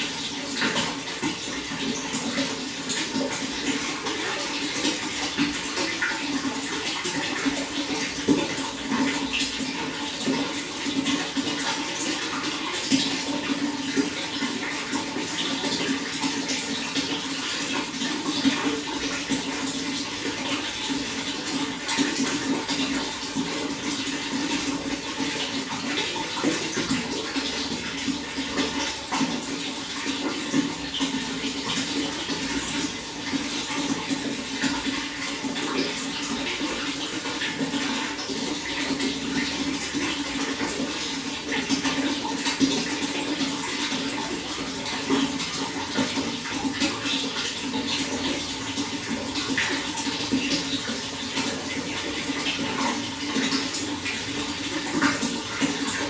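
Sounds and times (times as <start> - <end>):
running water flowing: 0.0 - 56.0.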